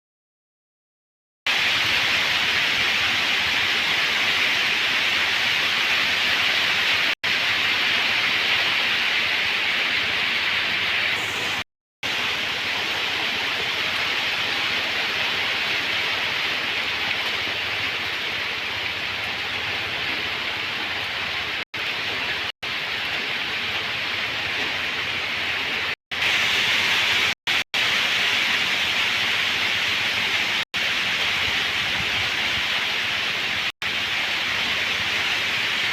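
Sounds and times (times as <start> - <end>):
steady rain falling: 1.5 - 35.9.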